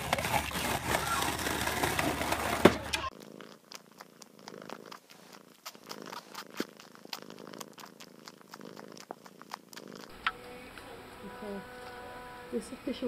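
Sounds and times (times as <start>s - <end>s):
cat purring: 0.1s - 13.0s.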